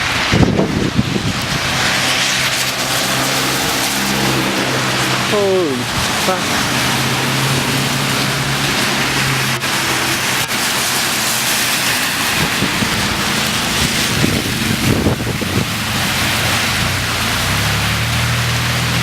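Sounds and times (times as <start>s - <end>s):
wind buffeting microphone: 0.0s - 17.6s
heavy rain and hail: 0.0s - 19.0s.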